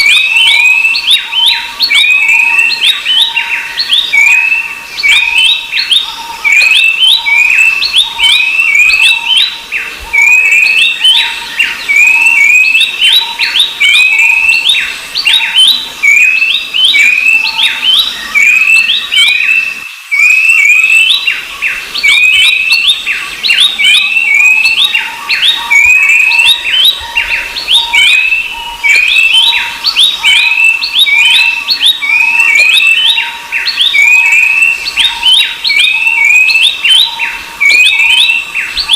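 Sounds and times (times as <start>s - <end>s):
birds chattering whistled notes: 0.0s - 38.9s.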